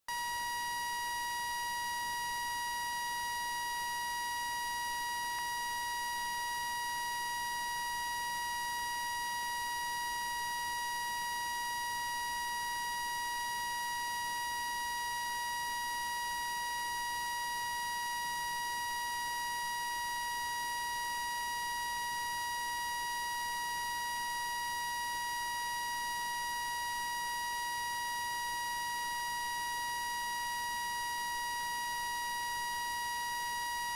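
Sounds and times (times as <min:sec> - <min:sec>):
continuous buzzy electronic beep: 0:00.1 - 0:33.9.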